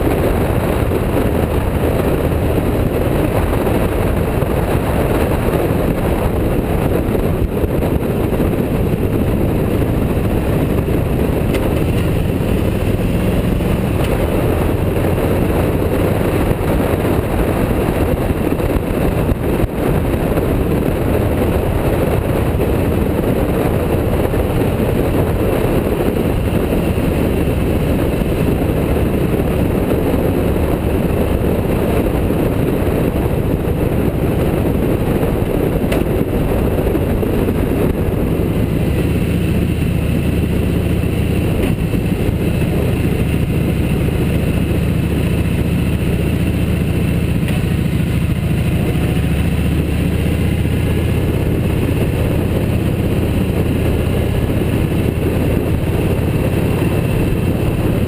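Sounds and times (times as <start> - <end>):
motorcycle engine drone: 0.0 - 58.0
wind rumble: 0.0 - 58.0.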